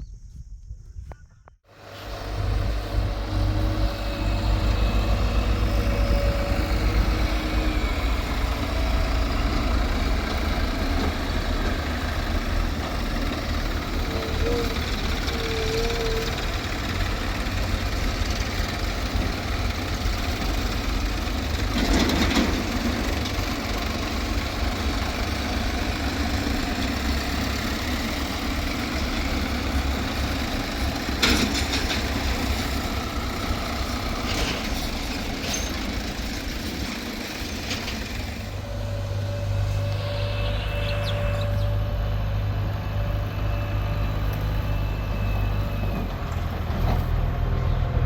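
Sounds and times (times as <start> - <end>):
diesel engine running: 1.7 - 48.0.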